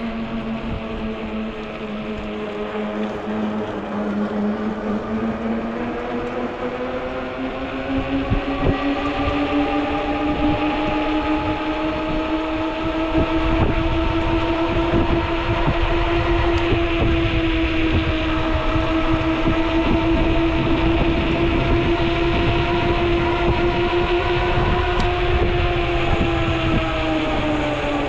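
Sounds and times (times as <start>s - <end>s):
electric bike motor whine: 0.0s - 28.0s
wind and road noise: 0.0s - 28.0s.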